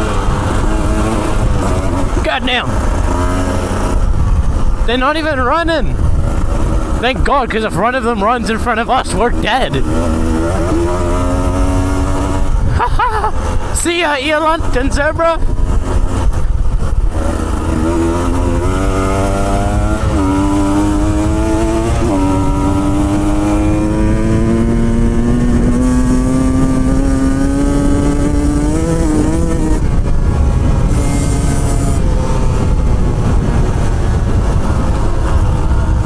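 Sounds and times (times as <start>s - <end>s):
motorcycle engine accelerating: 0.0s - 36.0s
road rumble: 0.0s - 36.0s
wind: 0.0s - 36.0s.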